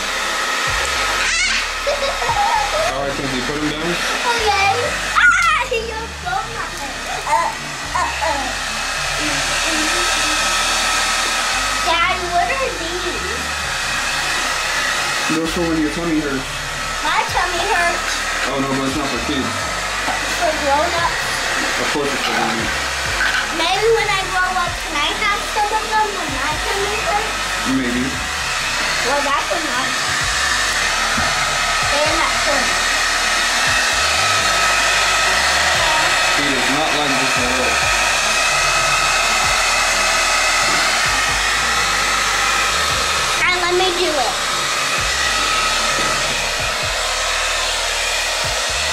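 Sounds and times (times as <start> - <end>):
blow dryer running: 0.0 - 48.9.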